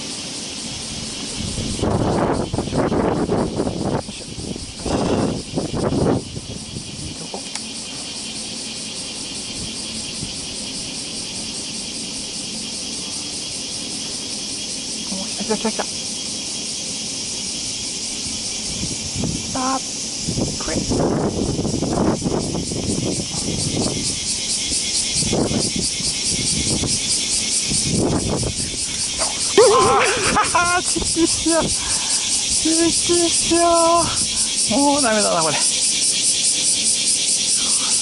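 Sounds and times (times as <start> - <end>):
insects chorus buzzing: 0.0 - 38.0.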